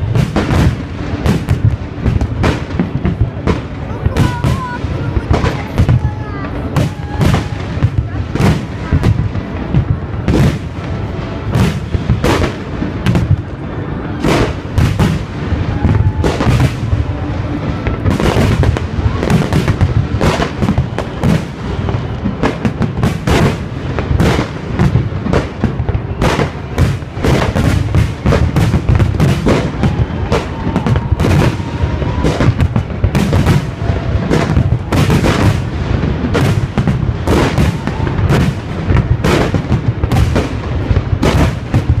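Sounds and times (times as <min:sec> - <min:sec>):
heavy low rumble: 0:00.8 - 0:42.0.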